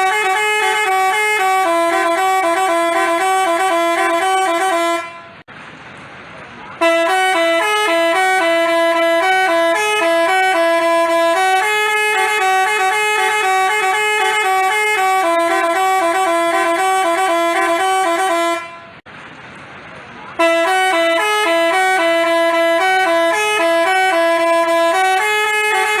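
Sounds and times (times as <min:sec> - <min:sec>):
multi-tone bus horn melody: 0:00.0 - 0:05.5, 0:06.8 - 0:19.1, 0:20.3 - 0:26.0.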